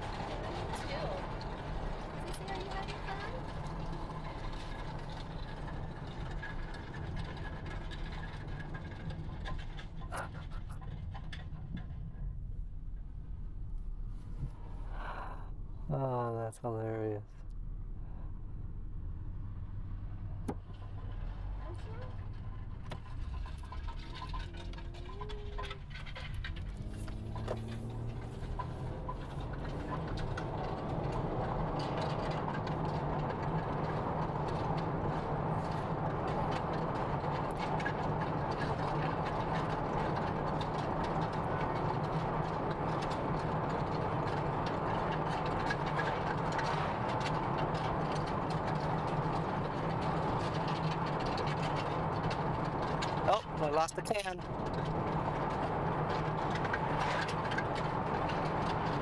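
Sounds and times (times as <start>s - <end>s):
car road and engine noise: 0.0s - 59.0s.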